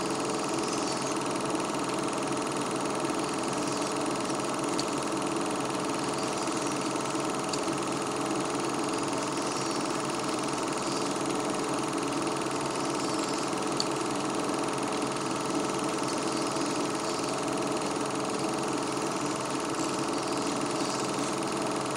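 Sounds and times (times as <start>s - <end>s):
film projector whirring: 0.0s - 21.9s.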